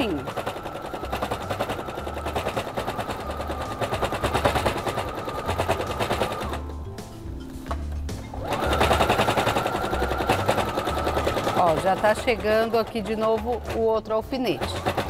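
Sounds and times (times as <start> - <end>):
sewing machine stitching: 0.0 - 6.7, 8.4 - 15.0.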